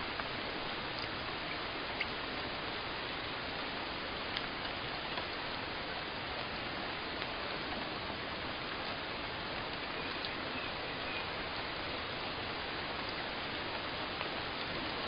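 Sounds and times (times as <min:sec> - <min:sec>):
faint drip ticks: 0:00.0 - 0:15.0
steady rain falling: 0:00.0 - 0:15.0.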